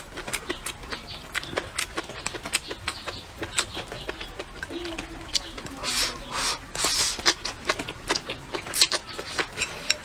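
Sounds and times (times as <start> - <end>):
wet chewing and lip-smacking: 0.0 - 10.0.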